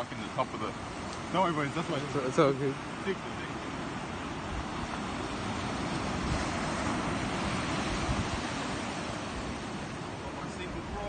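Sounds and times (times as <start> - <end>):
waves breaking on a beach: 0.0 - 11.0
wind rumbling on microphone: 0.0 - 11.0.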